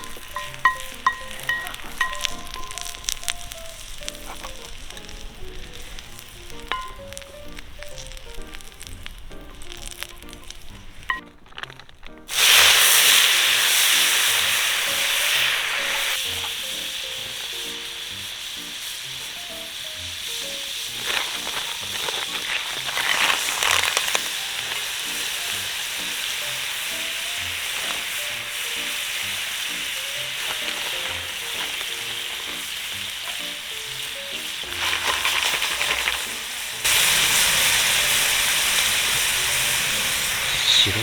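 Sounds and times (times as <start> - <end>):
crackling oil: 0.0 - 41.0
food sizzling in hot oil: 0.0 - 41.0.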